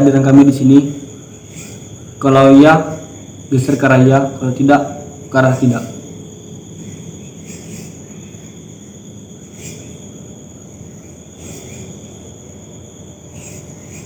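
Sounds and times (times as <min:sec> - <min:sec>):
low background hum: 0:00.0 - 0:14.0
night insects trilling: 0:00.0 - 0:14.0.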